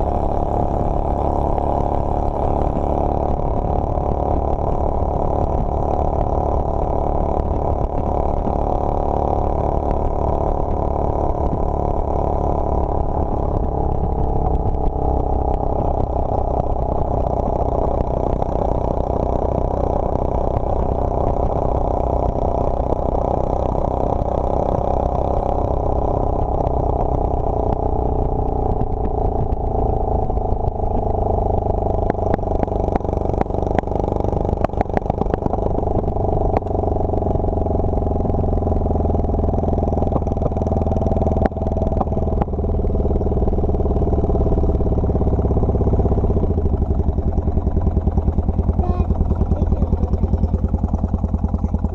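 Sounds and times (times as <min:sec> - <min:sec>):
motorcycle engine and wind: 0:00.0 - 0:51.9.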